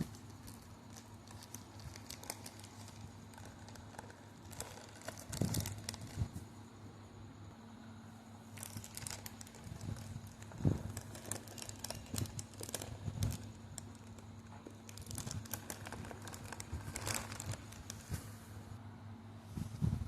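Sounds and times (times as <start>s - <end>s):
packaging crinkling and rustling: 0.0s - 6.5s, 8.5s - 18.4s
steady low hum: 0.0s - 20.0s.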